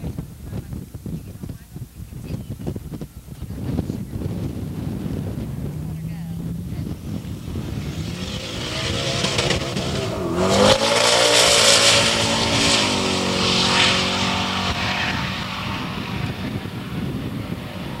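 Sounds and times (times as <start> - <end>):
car engine at full throttle: 3.0 - 18.0.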